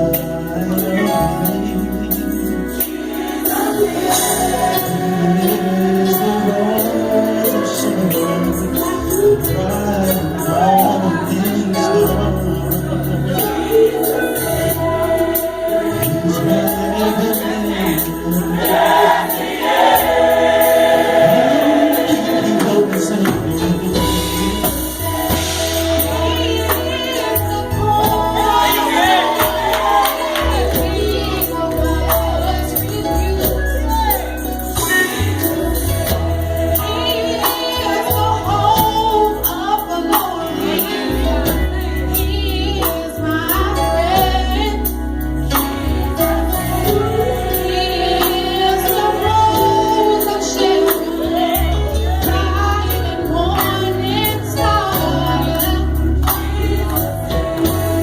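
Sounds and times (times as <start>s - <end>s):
gospel choir singing: 0.0s - 58.0s.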